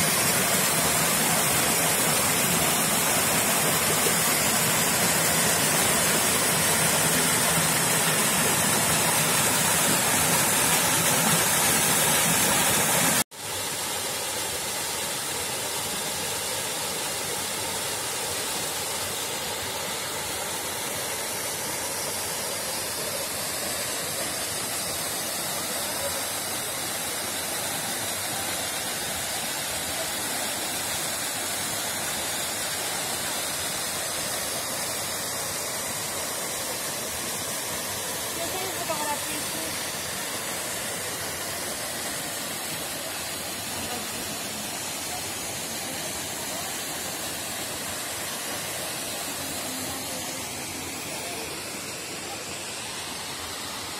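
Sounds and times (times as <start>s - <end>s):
waterfall rushing over rocks: 0.0s - 53.9s.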